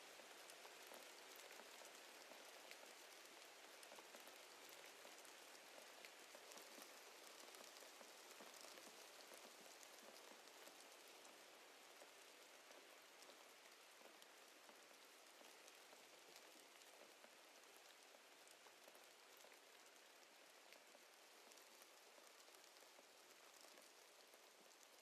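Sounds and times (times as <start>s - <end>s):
faint rain pattering: 0.0s - 25.0s.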